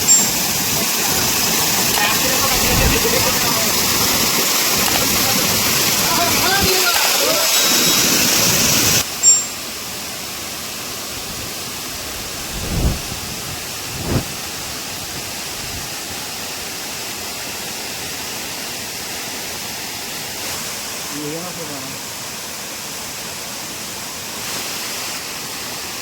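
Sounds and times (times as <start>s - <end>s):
waterfall rushing water: 0.0s - 26.0s.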